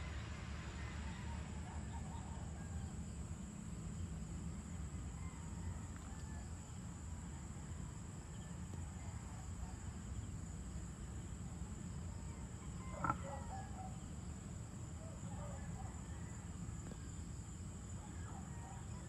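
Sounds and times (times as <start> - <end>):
crickets chirping: 0.0 - 19.0
low steady rumble: 0.0 - 19.0.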